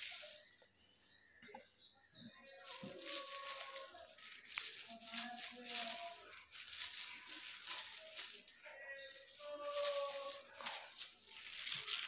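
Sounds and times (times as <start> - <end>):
plastic glove crackling and rustling: 0.0 - 1.4, 2.5 - 12.0.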